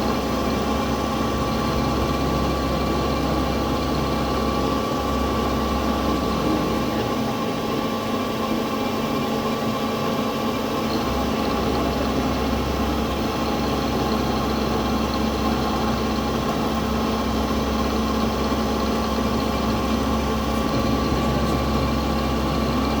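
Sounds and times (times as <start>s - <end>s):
machine whining tones: 0.0s - 23.0s
milling machine humming: 0.0s - 23.0s.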